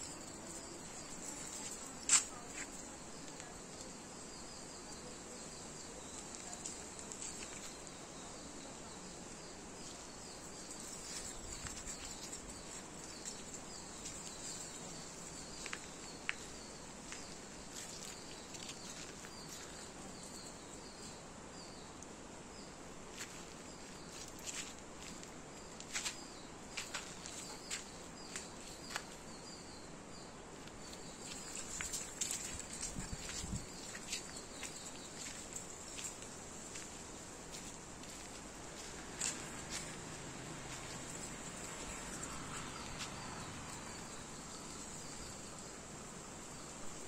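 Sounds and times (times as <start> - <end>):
insect buzzing and chirping: 0.0 - 22.0, 22.6 - 47.0.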